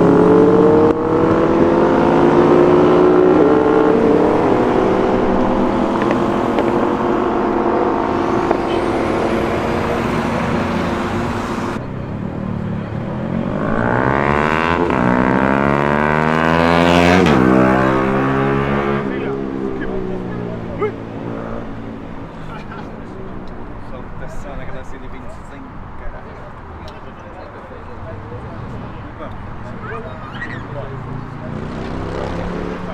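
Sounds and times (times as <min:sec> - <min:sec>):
motorbike accelerating hard: 0:00.0 - 0:26.4, 0:27.6 - 0:32.9.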